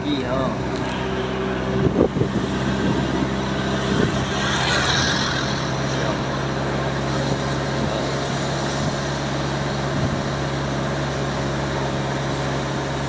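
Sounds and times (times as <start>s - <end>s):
vehicle engine hum: 0.0s - 13.0s
rushing hiss: 0.8s - 11.6s.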